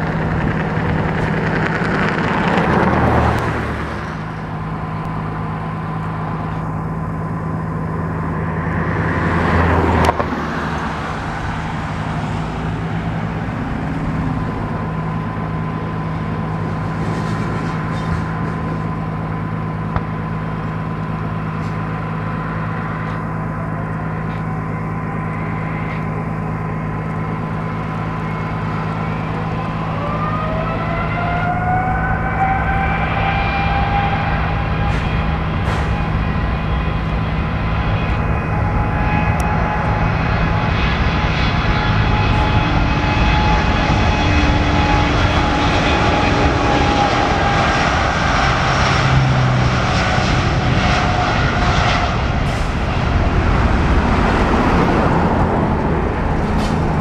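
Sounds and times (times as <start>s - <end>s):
engine whine rising in pitch: 0.0s - 57.0s
jet engines droning: 0.0s - 57.0s.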